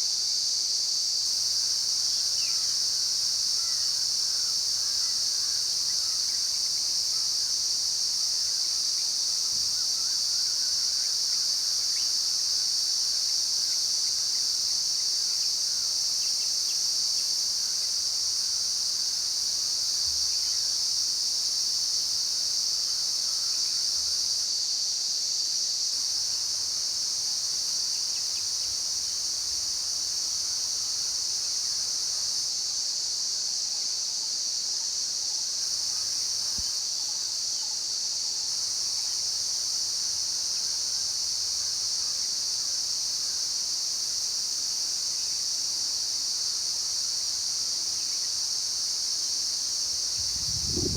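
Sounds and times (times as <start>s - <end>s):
insects chorus: 0.0s - 50.9s.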